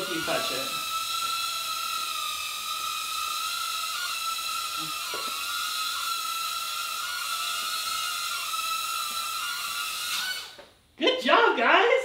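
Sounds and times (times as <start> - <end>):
drone propellers whining: 0.0 - 10.6.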